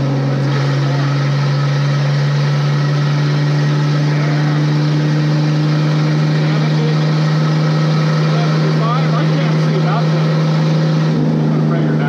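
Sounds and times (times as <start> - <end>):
pickup engine and road drone: 0.0 - 12.0.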